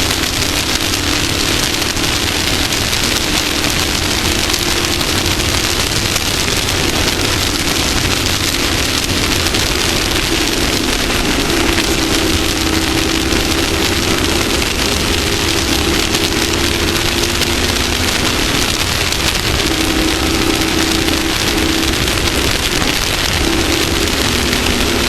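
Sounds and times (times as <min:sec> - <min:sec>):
engine drone: 0:00.0 - 0:25.0
loud even hiss: 0:00.0 - 0:25.0.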